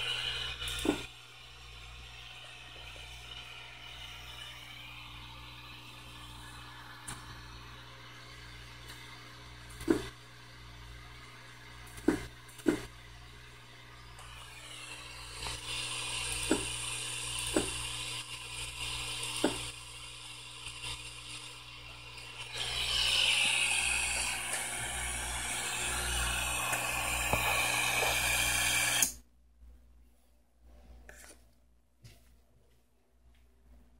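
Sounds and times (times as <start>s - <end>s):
machine hissing and whining: 0.0s - 29.2s.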